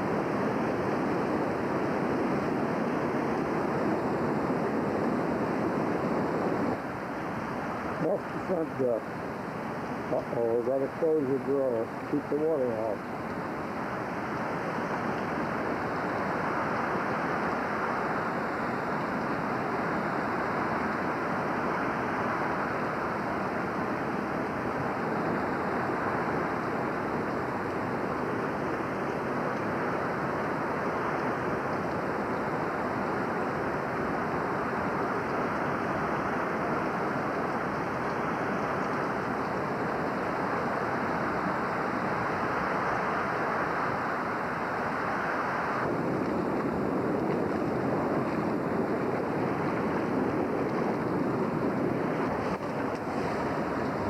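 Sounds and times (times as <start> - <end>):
floodwater rushing: 0.0 - 54.0.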